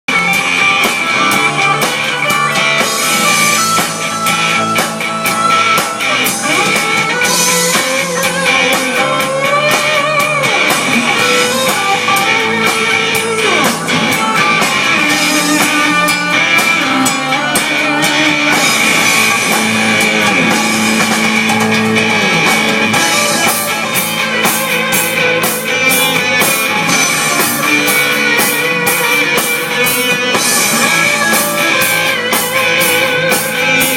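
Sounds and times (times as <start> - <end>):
live rock band playing: 0.0 - 33.9
steady high tone: 0.3 - 33.9.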